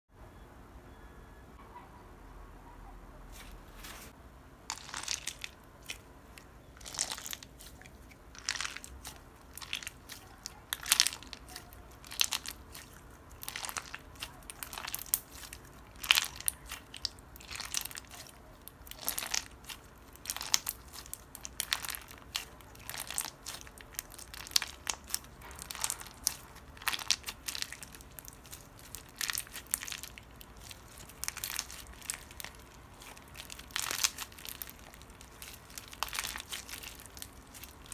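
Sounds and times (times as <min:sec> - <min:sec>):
slime crunching and crackling: 0:03.3 - 0:37.9.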